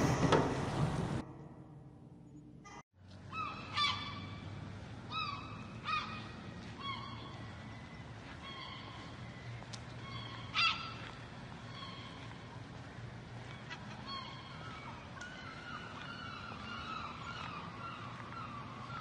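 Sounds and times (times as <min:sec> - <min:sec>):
low background ambience: 0:00.0 - 0:19.0
gulls calling: 0:02.7 - 0:19.0.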